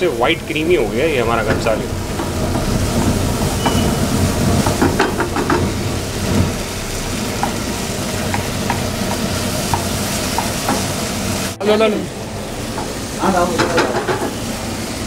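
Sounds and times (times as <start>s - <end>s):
food sizzling: 0.0s - 15.0s
low kitchen rumble: 0.0s - 15.0s.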